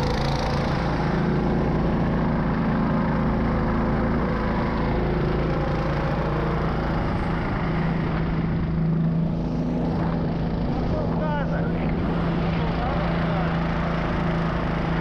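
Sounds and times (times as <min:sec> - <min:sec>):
snow vehicle engine under load: 0:00.0 - 0:15.0.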